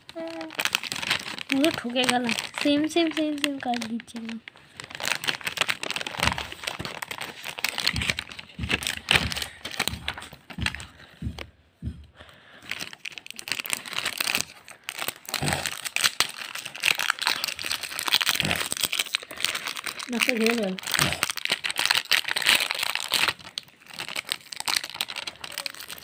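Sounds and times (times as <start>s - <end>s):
foil wrappers crinkling: 0.0s - 11.4s, 12.5s - 26.0s.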